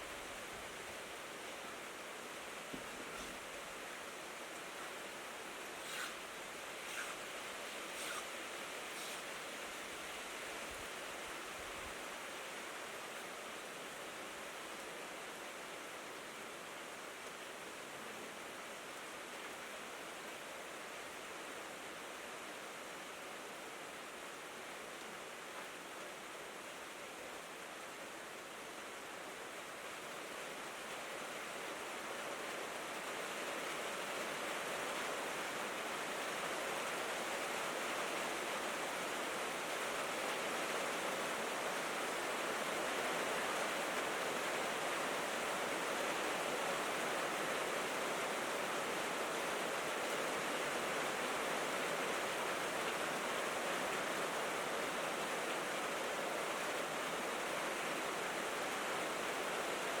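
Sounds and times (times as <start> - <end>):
rain on a tin roof: 0.0 - 60.0.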